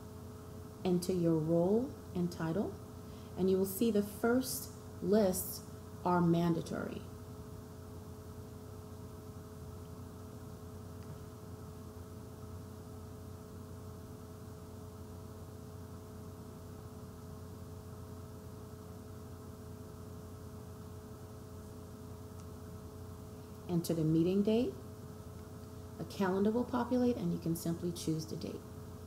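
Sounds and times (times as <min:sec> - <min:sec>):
electrical hum with hiss: 0:00.0 - 0:29.0.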